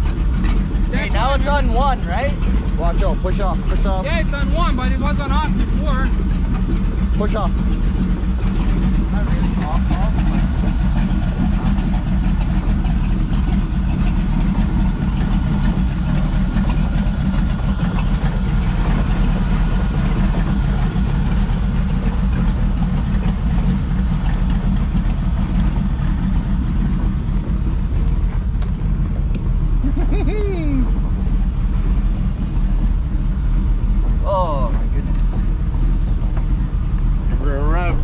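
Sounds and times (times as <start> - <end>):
boat engine idling: 0.0 - 38.0.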